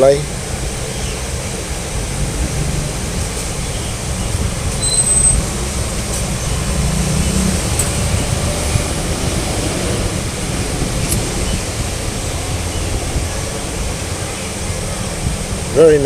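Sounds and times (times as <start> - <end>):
water fountain jets rushing: 0.0 - 16.0.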